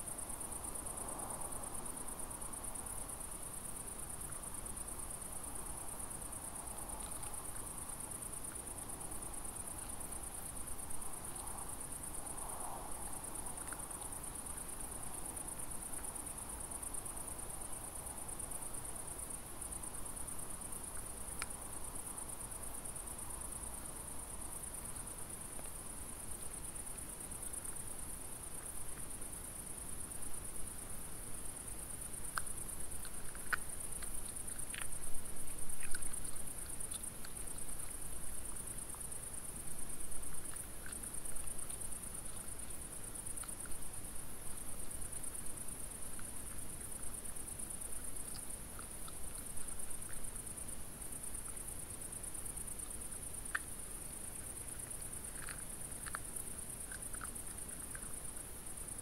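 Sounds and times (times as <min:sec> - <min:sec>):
crickets chirring: 0:00.0 - 0:59.0
faint ticks: 0:03.7 - 0:59.0.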